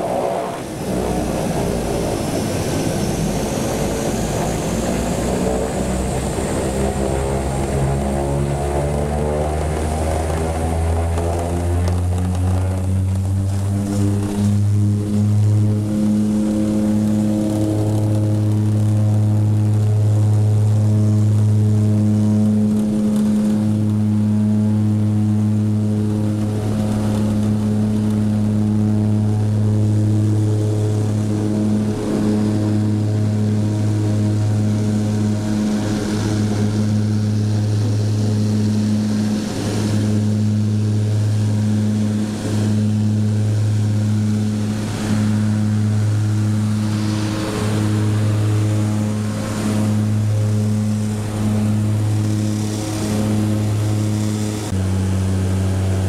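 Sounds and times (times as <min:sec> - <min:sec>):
propeller airplane engines droning: 0:00.0 - 0:56.0.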